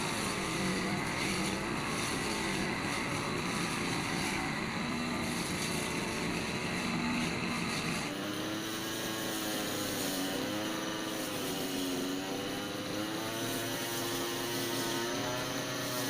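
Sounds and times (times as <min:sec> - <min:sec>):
brush cutter engine running: 0:00.0 - 0:16.0.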